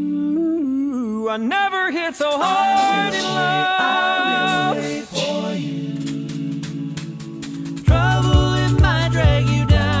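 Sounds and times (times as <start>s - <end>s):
male a cappella group singing: 0.0s - 10.0s.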